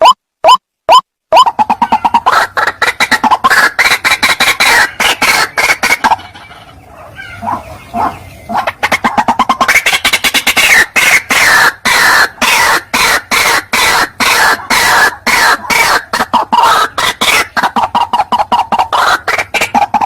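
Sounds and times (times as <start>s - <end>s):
waterhen calling harshly: 1.3s - 20.0s.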